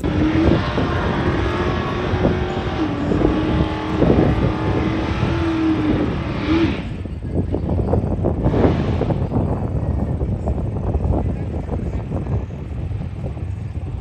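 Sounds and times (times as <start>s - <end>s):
engine at full throttle: 0.0s - 14.0s.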